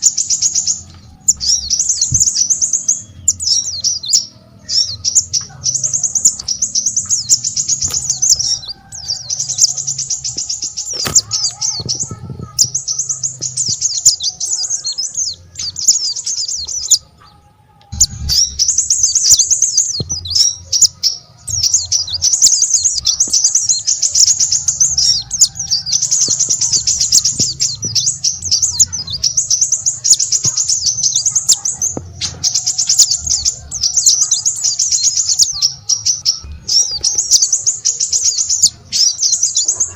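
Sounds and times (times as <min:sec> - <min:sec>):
songbirds twittering: 0:00.0 - 0:39.9.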